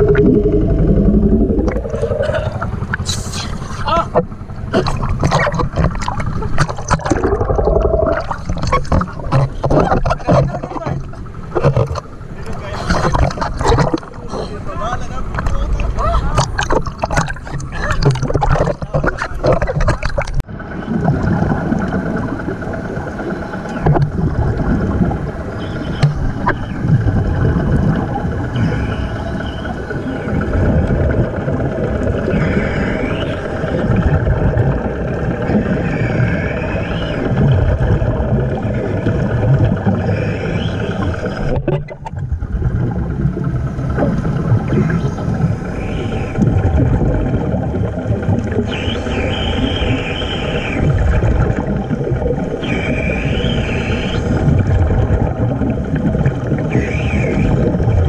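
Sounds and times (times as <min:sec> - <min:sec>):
engine hum underwater: 0:00.0 - 0:58.0
underwater rumble: 0:00.0 - 0:58.0
water splashing: 0:00.0 - 0:58.0.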